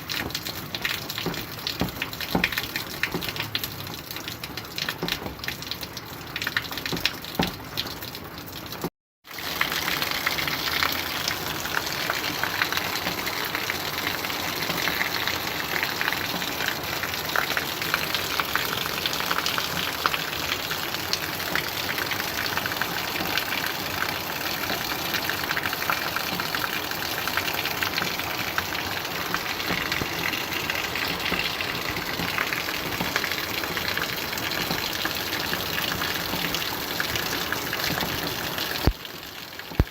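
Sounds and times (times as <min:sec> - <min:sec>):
rain falling: 0:00.0 - 0:39.9
raindrops tapping: 0:00.0 - 0:39.9.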